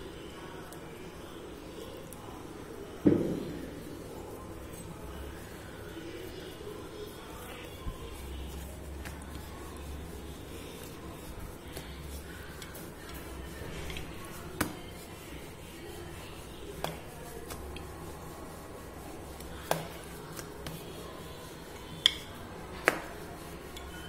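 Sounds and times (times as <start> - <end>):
rolling pin rubbing on dough: 0.3 - 24.0.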